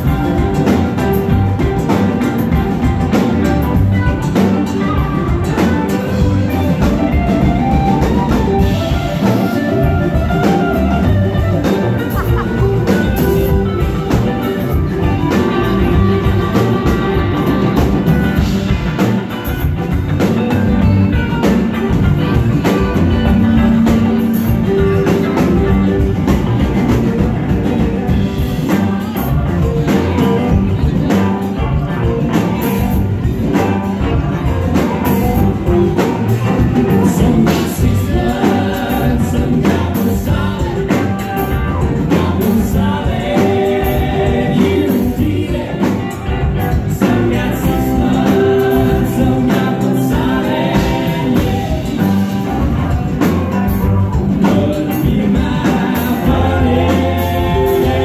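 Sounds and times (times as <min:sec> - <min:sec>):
person singing: 0:00.0 - 0:58.0
rock band playing live: 0:00.0 - 0:58.0.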